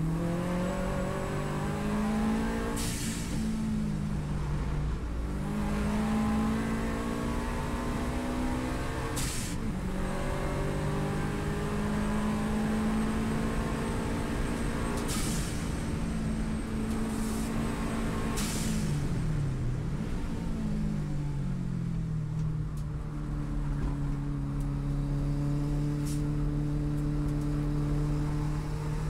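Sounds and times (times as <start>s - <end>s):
car engine at full throttle: 0.0s - 29.0s.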